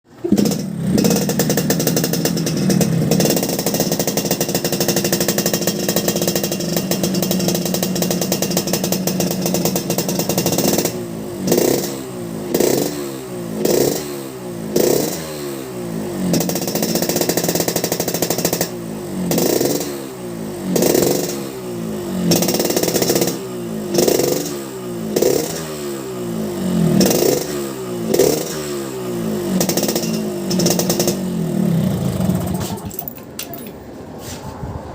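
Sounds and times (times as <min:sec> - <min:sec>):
motorcycle exhaust revving: 0:00.1 - 0:32.9.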